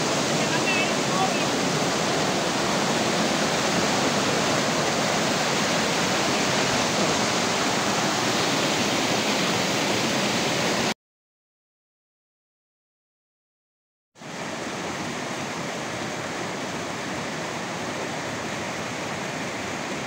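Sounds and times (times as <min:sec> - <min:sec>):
river water rushing over cascades: 0:00.0 - 0:10.9, 0:14.2 - 0:20.0.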